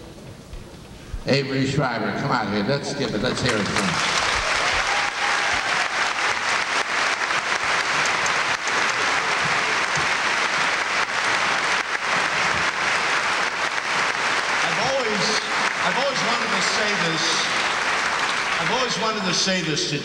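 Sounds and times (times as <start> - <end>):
audience applauding: 3.2 - 19.6.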